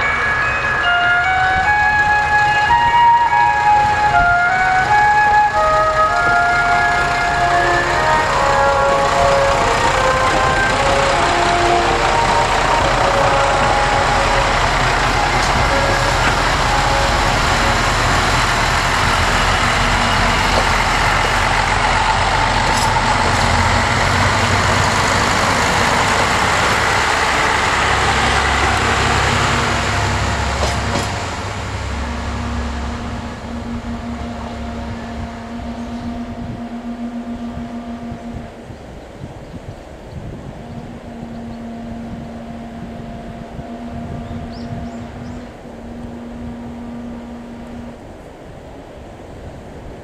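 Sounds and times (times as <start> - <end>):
diesel railcar engines: 0.0 - 50.0
train wheels rumbling on rails: 0.0 - 50.0.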